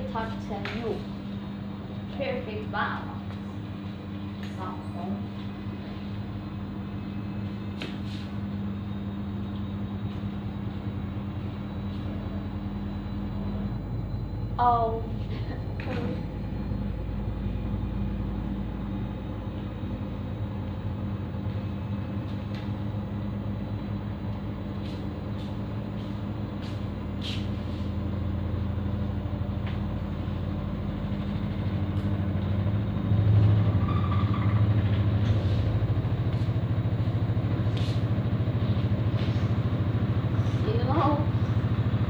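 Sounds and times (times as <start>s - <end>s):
washing machine spinning rumble: 0.0s - 42.0s.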